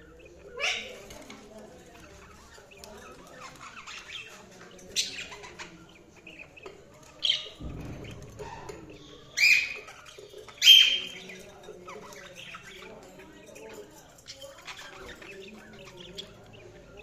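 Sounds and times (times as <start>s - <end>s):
soft warbling chatter: 0.0s - 17.0s.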